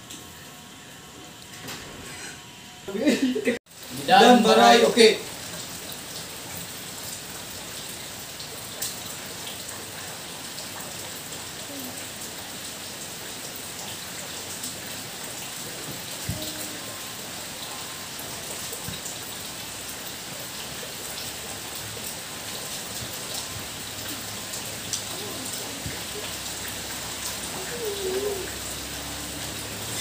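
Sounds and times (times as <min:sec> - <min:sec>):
steady rain pattering: 0:03.1 - 0:30.0.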